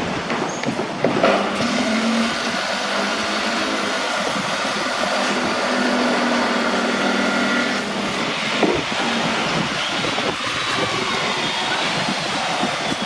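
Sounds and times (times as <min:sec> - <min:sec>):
motor running: 0:01.6 - 0:12.6.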